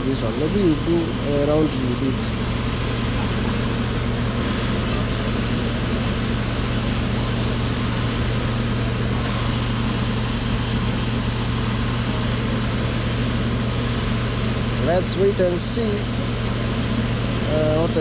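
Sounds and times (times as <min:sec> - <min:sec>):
constant low hum: 0:00.0 - 0:18.0.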